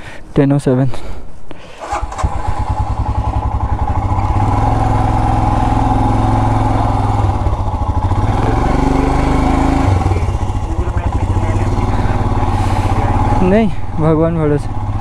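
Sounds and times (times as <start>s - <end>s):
motorcycle engine pulsing: 1.8s - 15.0s.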